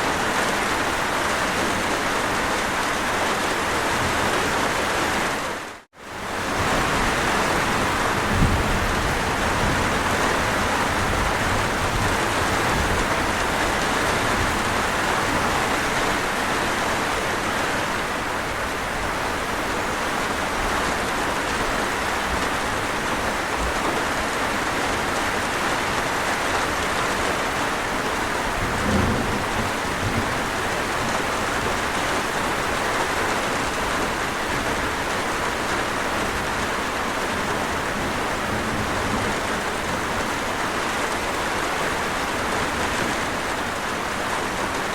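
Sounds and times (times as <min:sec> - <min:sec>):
rain falling on surfaces: 0:00.0 - 0:44.9.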